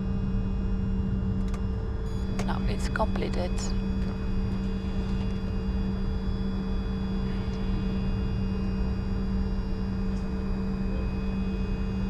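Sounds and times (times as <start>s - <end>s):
jet cockpit engine drone: 0.0s - 12.0s.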